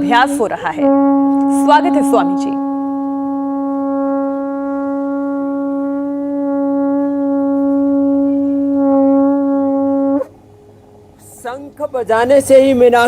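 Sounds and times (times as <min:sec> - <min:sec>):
conch shell blown: 0:00.0 - 0:11.2.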